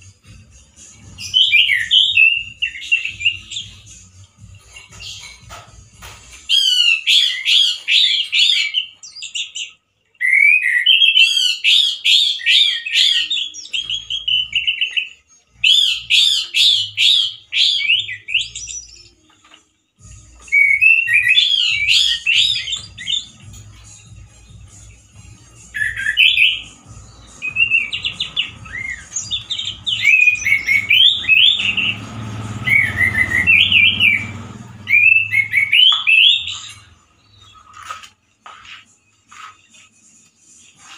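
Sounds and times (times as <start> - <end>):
thrush singing whistled notes: 0.0 - 5.4, 6.4 - 19.3, 20.0 - 37.8.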